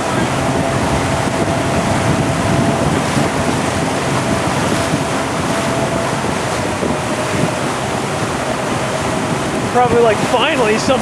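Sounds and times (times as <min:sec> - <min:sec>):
rushing water from boat wake: 0:00.0 - 0:11.0
wind buffeting microphone: 0:00.0 - 0:11.0.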